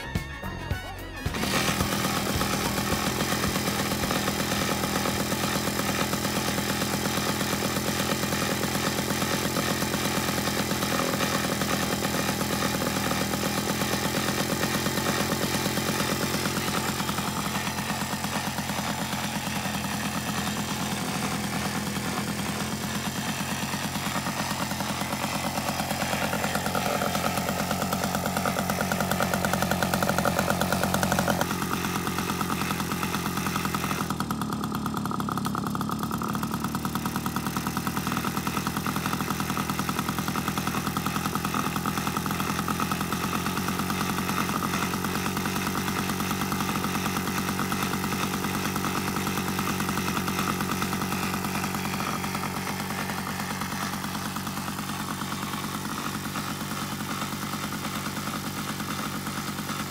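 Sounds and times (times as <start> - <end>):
moped engine idling: 0.0 - 59.9.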